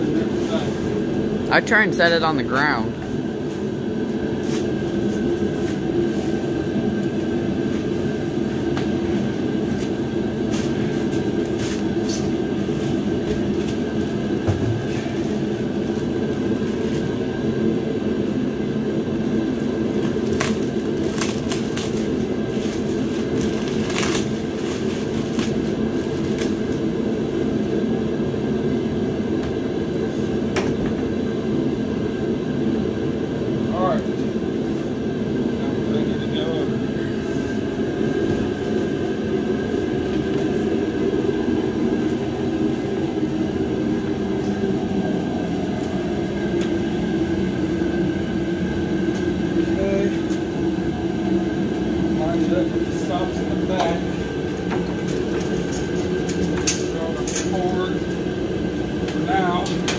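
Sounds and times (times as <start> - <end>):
machine droning: 0.0 - 59.9.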